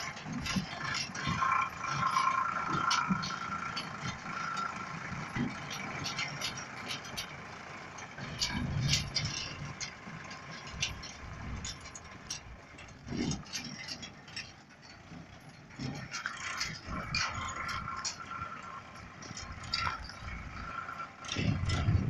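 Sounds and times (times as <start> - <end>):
clicks and rattles: 0.0 - 22.0
tractor diesel engine running: 0.0 - 22.0.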